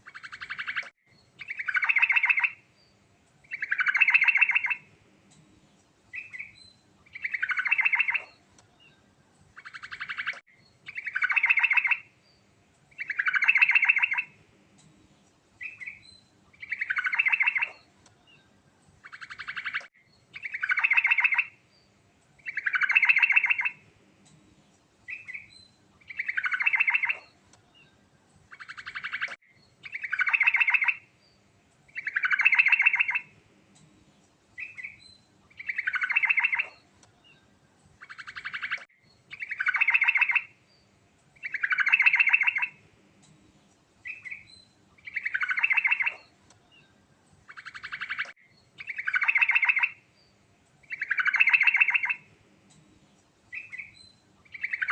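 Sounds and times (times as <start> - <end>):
bulbul singing rattling song: 0.0 - 54.9.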